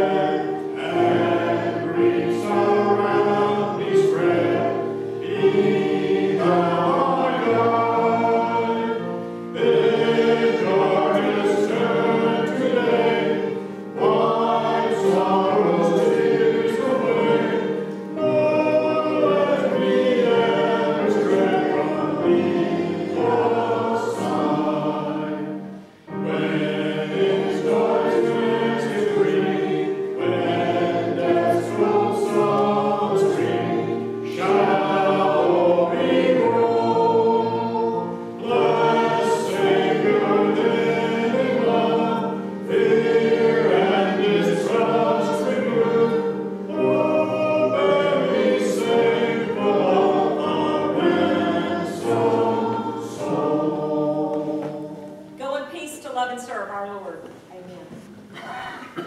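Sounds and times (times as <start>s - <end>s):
group singing a hymn: 0.0s - 55.4s.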